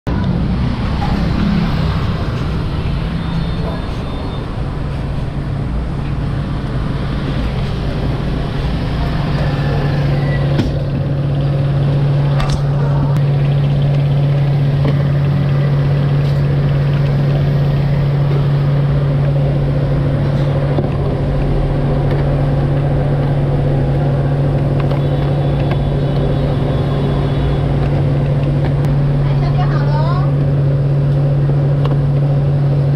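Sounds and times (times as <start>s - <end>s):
low machine hum: 0.1s - 32.9s.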